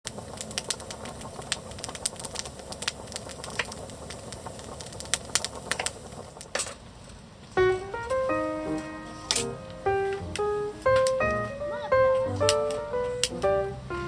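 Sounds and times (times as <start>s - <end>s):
campfire crackling and popping: 0.1s - 14.0s.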